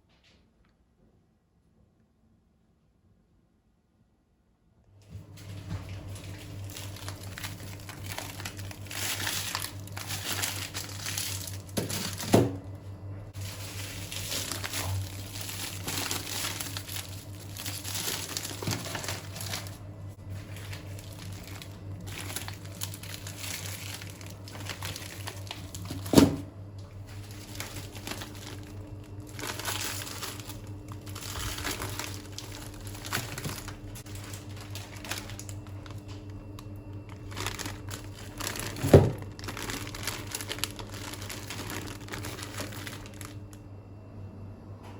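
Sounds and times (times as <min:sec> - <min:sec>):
wrapping crinkling: 0:05.4 - 0:12.6, 0:13.3 - 0:43.6.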